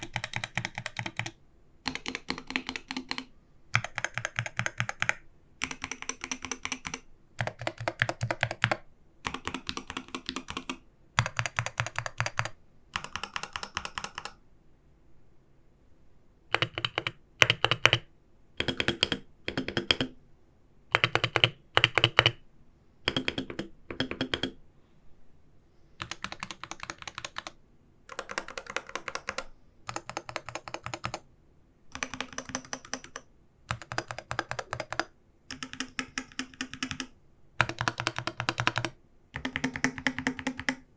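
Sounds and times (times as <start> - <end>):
keyboard typing: 0.0 - 14.4, 16.5 - 20.2, 20.9 - 22.4, 23.0 - 24.6, 26.0 - 31.3, 31.9 - 40.9.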